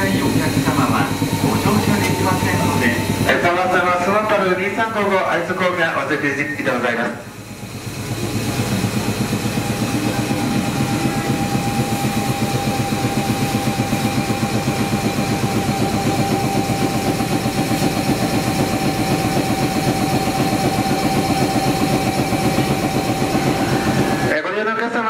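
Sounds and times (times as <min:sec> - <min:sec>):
steady high whine: 0:00.0 - 0:25.0
train equipment rapid chugging: 0:00.0 - 0:25.0.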